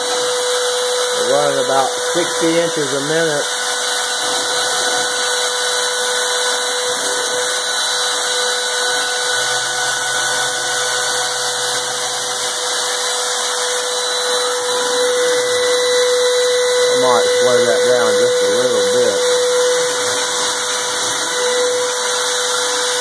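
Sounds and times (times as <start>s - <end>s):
cnc spindle milling metal: 0.0s - 23.0s.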